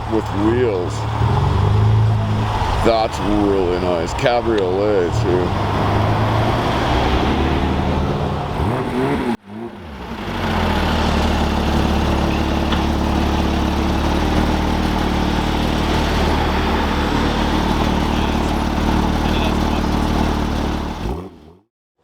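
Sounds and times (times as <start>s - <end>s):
car engine running steadily: 0.0s - 21.4s.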